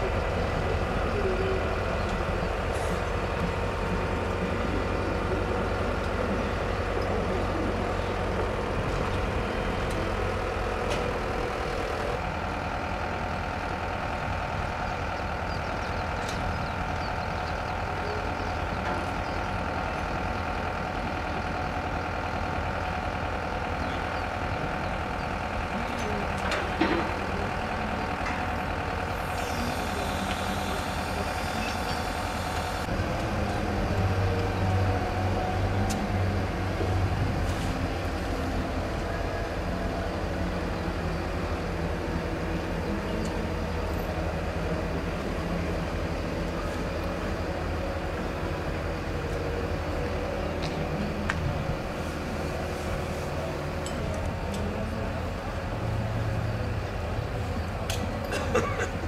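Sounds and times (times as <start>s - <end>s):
crane diesel engine running: 0.0s - 59.0s.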